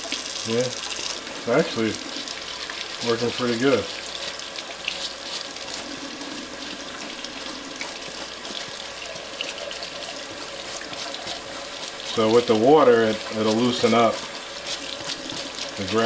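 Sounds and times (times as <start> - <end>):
tap running water into sink: 0.0 - 16.0
brush scrubbing: 1.5 - 16.0.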